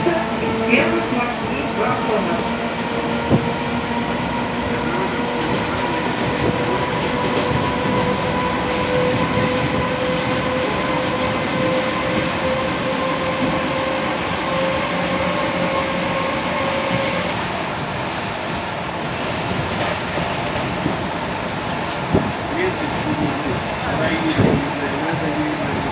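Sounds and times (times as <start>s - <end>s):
train rumble: 0.0s - 25.9s
train whine: 0.0s - 25.9s.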